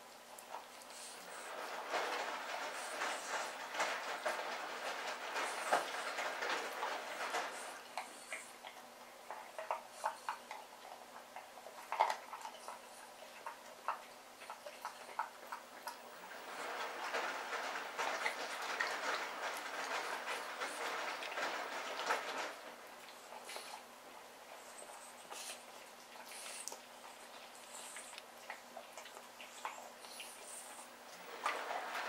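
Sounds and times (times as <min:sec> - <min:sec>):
puppy chewing bones: 0:00.0 - 0:32.0.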